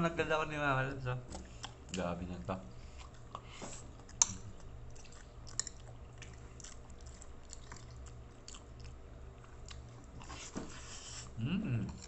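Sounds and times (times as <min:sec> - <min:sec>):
steady low hum: 0:00.0 - 0:12.0
person chewing: 0:01.3 - 0:02.0, 0:02.8 - 0:12.0.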